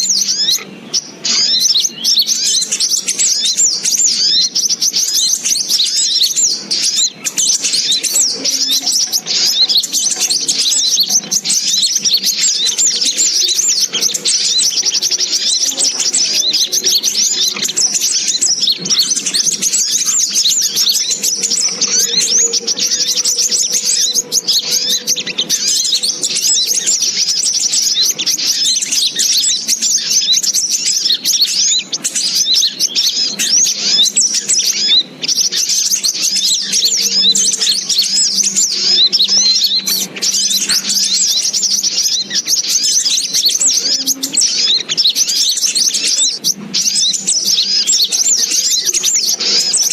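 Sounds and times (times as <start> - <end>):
high-pitched bird chirping: 0.0 - 49.9.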